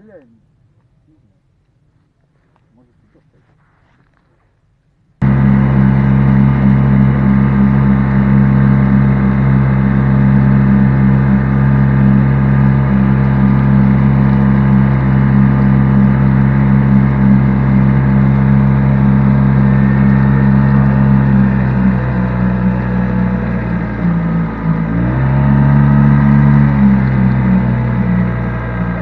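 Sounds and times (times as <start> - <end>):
engine droning steadily: 5.0 - 29.0.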